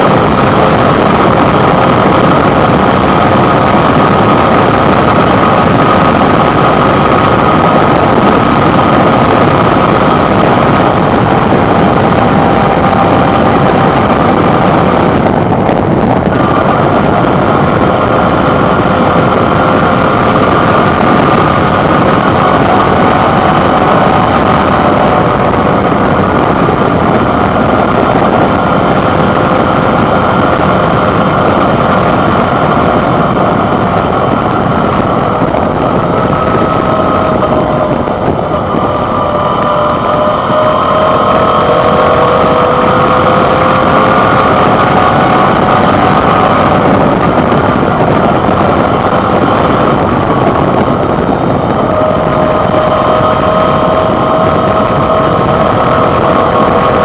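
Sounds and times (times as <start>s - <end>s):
motorcycle engine running: 0.0s - 57.0s
road noise: 0.0s - 57.0s
wind noise: 0.0s - 57.0s.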